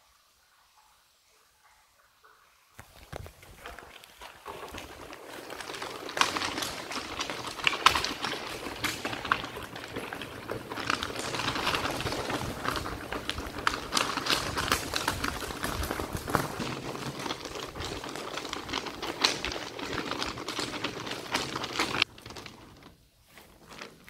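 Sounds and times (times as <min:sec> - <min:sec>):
bicycle rattling: 0:02.8 - 0:24.0
tyres crunching on gravel: 0:02.8 - 0:24.0.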